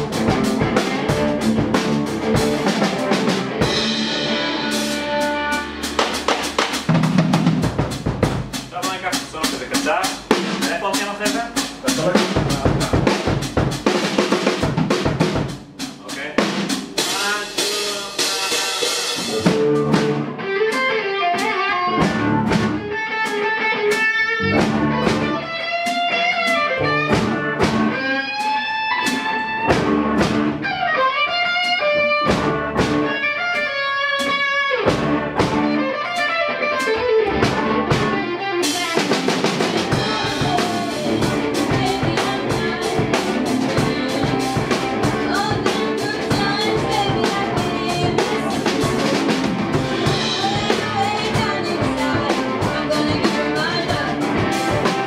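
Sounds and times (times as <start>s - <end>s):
drum kit with cymbals: 0.0s - 55.0s
rock band playing: 0.0s - 55.0s.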